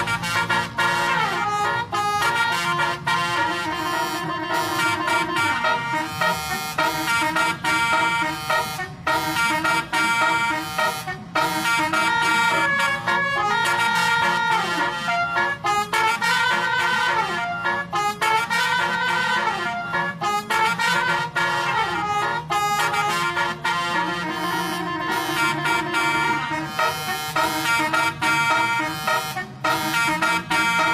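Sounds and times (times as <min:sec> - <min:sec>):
bus horn playing a tune: 0:00.0 - 0:30.9.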